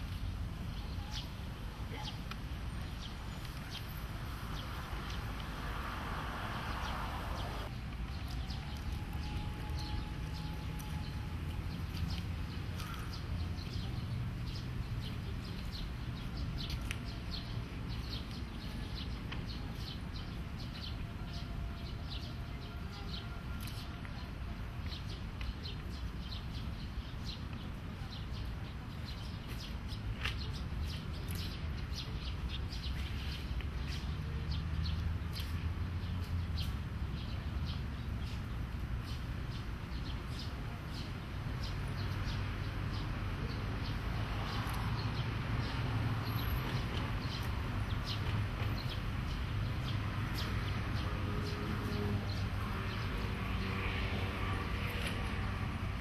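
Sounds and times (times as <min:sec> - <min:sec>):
small birds chirping: 0:00.1 - 0:22.3, 0:24.8 - 0:55.5.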